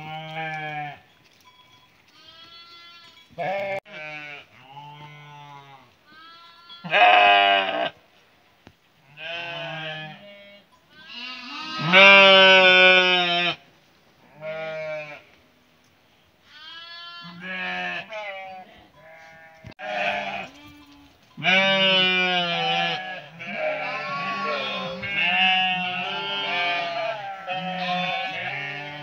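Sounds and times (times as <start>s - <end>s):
sheep bleating: 0.0s - 1.0s, 2.1s - 8.0s, 9.1s - 13.6s, 14.3s - 15.2s, 16.5s - 29.0s.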